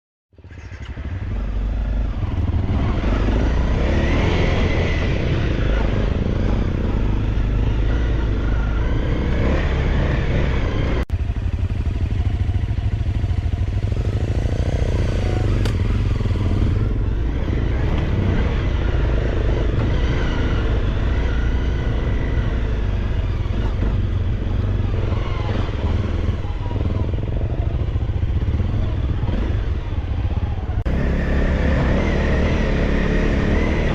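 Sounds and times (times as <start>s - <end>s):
dirt bike engine running: 0.3s - 33.9s.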